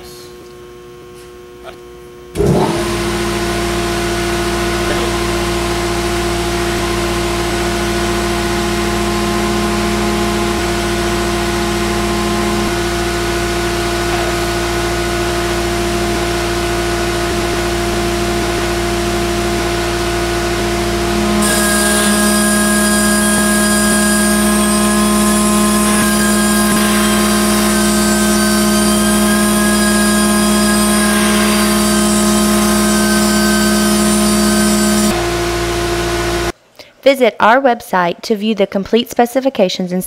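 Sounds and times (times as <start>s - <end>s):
hydraulic pump humming: 2.3s - 36.5s.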